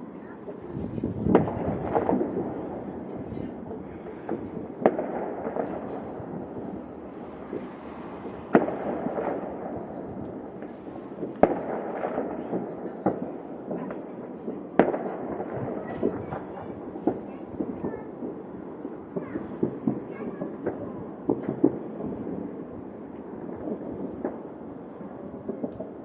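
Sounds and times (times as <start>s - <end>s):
firework pops and crackling: 0.0s - 26.0s
firework shells bursting: 1.2s - 26.0s.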